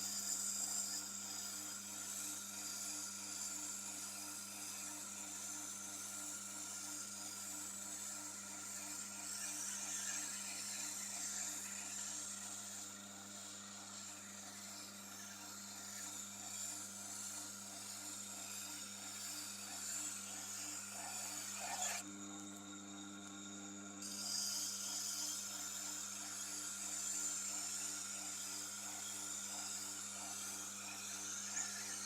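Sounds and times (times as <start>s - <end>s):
knife grinding on wheel: 0.0s - 22.1s, 22.8s - 32.0s
sharpening machine motor humming: 0.0s - 32.0s.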